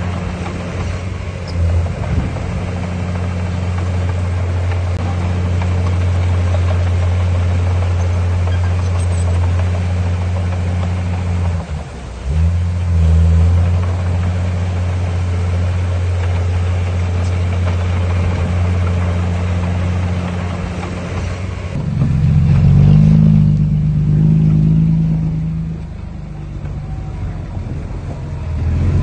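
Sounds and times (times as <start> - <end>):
diesel engine of heavy machinery: 0.0 - 29.0.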